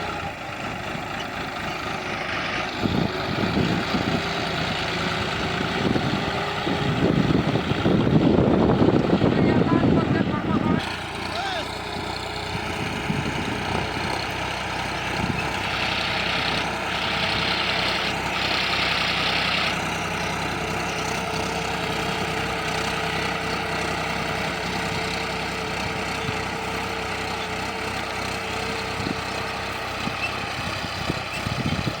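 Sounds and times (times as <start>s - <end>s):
tractor diesel engine idling: 0.0s - 32.0s.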